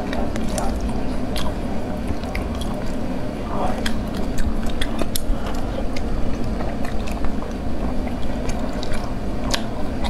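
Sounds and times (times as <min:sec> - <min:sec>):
wet sucking and chewing: 0:00.0 - 0:10.0.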